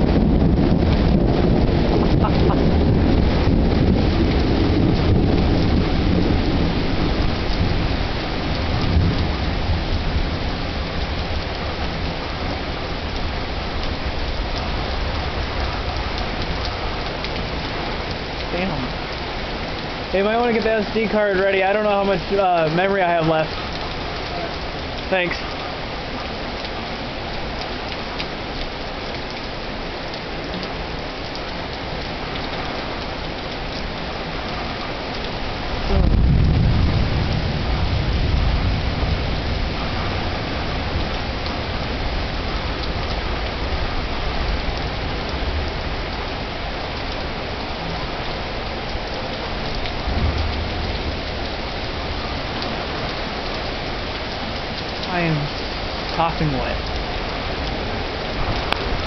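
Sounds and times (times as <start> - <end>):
low rumble of thunder: 0.0 - 28.6, 32.4 - 59.0
heavy rain pouring: 0.0 - 59.0.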